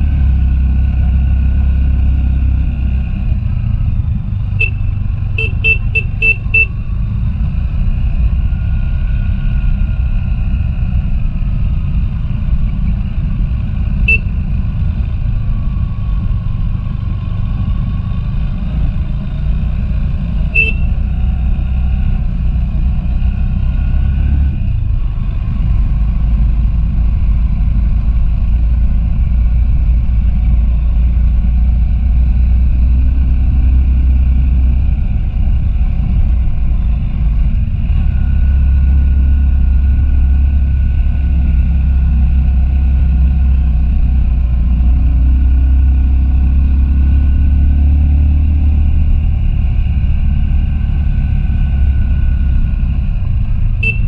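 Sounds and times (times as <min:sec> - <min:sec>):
motorcycle engine rumbling: 0:00.0 - 0:54.0.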